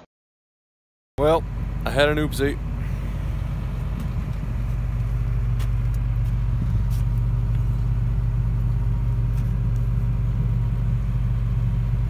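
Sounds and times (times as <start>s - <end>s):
excavator diesel engine idling: 1.2s - 12.0s.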